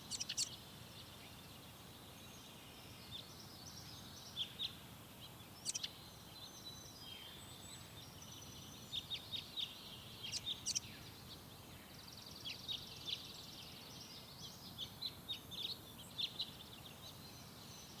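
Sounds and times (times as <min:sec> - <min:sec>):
forest background hiss: 0:00.0 - 0:18.0
small birds chirping: 0:00.0 - 0:18.0.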